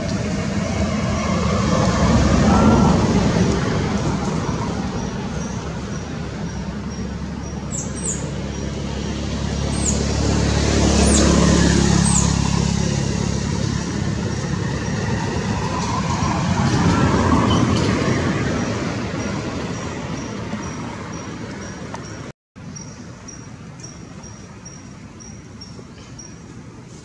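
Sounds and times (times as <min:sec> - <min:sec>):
vehicles passing: 0:00.0 - 0:27.0.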